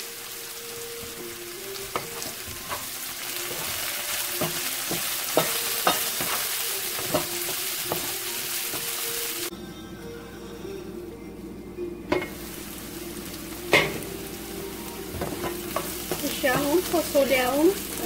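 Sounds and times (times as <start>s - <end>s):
vegetables sizzling in oil: 0.0s - 9.5s, 12.1s - 18.0s.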